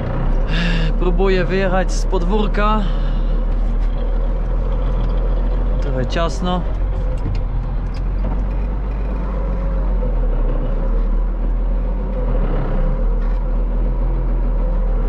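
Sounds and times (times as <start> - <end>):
tractor diesel engine hum: 0.0 - 15.0.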